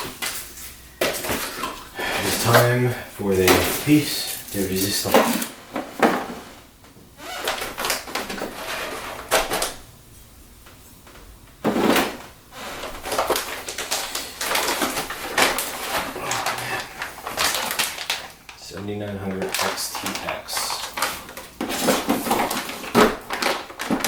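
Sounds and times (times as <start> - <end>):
packaging rustling and scraping: 0.0 - 9.8, 11.6 - 24.0.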